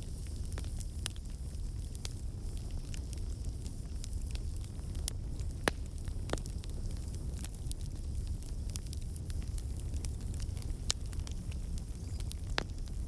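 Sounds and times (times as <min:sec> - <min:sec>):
fire crackling and popping: 0:00.0 - 0:13.0
fire rumbling in a fireplace: 0:00.0 - 0:13.0.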